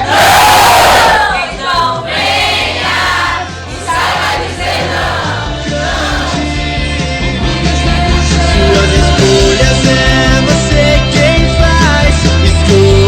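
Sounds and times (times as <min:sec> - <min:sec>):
group voices singing gospel: 0:00.0 - 0:13.0
heavy bass beat: 0:00.0 - 0:13.0.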